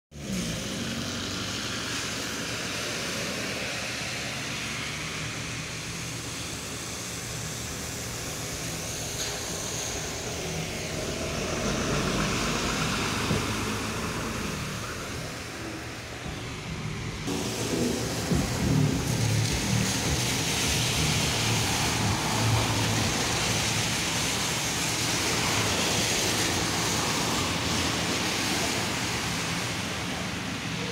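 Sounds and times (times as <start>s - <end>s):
tyres hissing on wet road: 0.1s - 30.9s
vehicle engines running: 0.1s - 30.9s.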